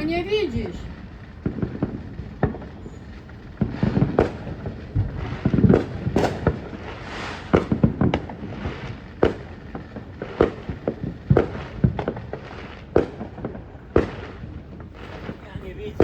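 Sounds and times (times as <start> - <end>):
firework hiss: 0.0 - 16.0
fireworks bangs and pops: 0.0 - 16.0.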